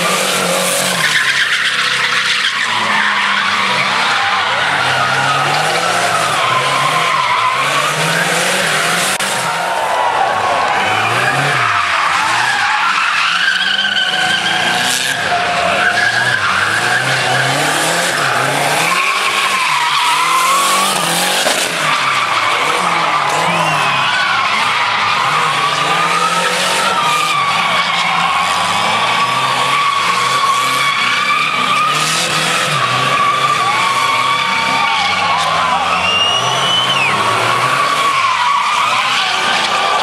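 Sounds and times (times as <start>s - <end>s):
car engine revving hard: 0.0s - 9.6s, 13.4s - 40.0s
tyres squealing: 0.0s - 40.0s.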